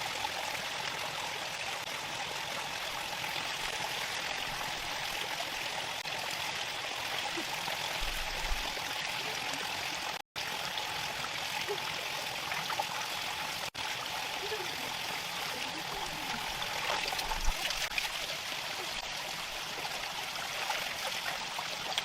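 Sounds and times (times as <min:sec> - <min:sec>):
water flowing over rocks: 0:00.0 - 0:22.0.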